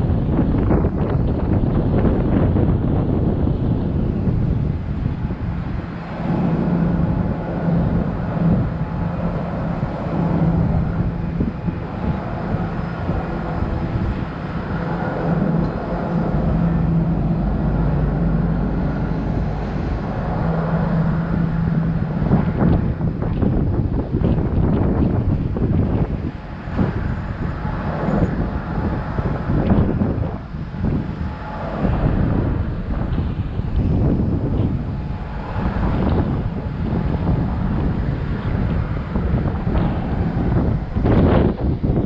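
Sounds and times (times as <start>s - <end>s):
jet engines rumbling: 0.0s - 42.0s
low hum: 0.0s - 42.0s.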